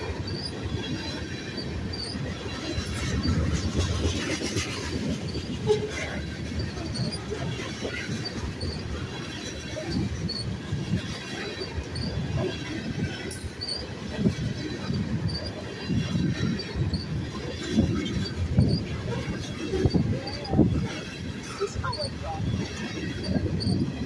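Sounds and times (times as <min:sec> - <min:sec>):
train cars clanking: 0:00.0 - 0:24.0
train wheels rumbling on rail: 0:00.0 - 0:24.0.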